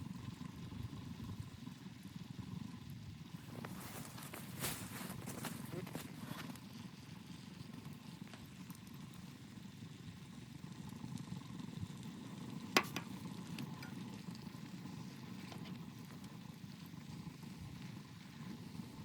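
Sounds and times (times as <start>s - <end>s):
fire popping: 0.0s - 19.0s
wood fire crackling: 0.0s - 19.0s.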